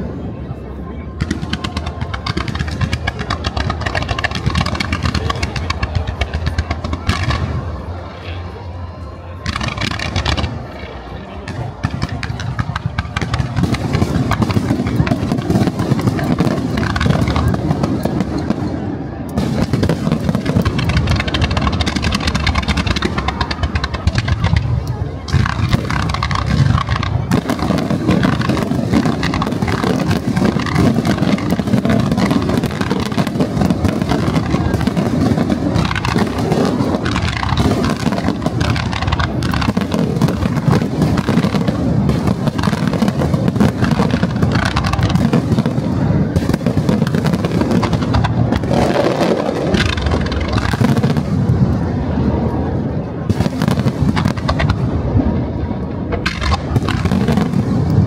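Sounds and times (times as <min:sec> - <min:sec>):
fireworks barrage rumble: 0:00.0 - 0:58.0.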